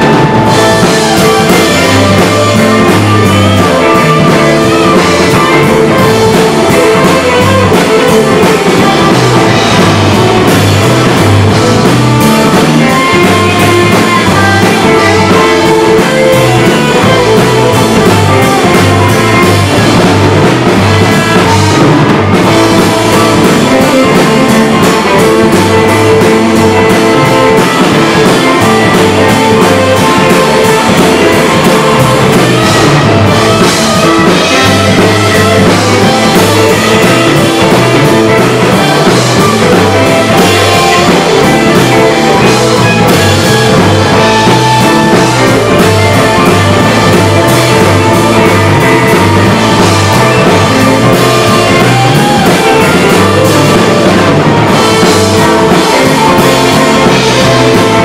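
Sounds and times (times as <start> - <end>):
drum kit: 0.0 - 58.0
electric bass: 0.0 - 58.0
electric guitars: 0.0 - 58.0.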